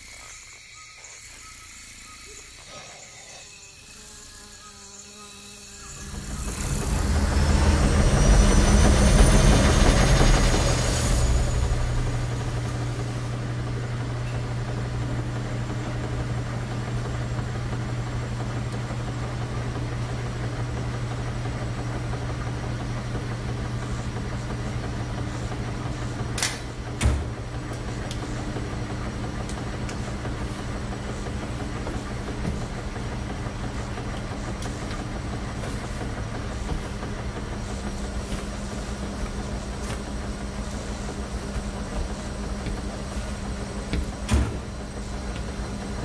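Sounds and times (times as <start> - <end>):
washing machines humming: 0.0 - 46.0.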